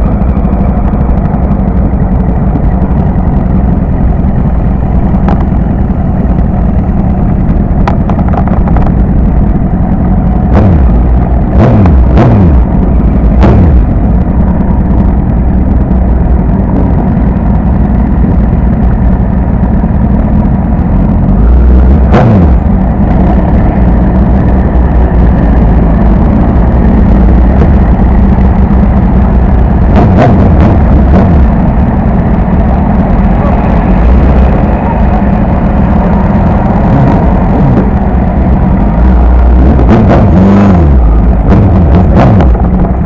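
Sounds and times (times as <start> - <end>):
motorcycle engine: 0.0 - 43.0
wind rumble on microphone: 0.0 - 43.0.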